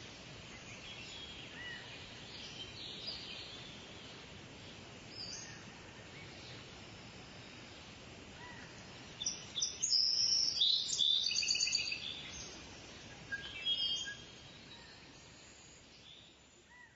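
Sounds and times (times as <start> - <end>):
background hiss: 0.0 - 16.9
small birds chirping: 0.3 - 16.9.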